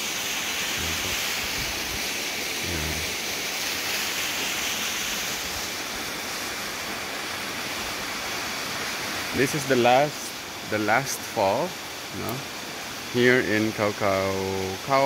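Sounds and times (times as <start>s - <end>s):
waterfall pouring over rocks: 0.0s - 15.0s.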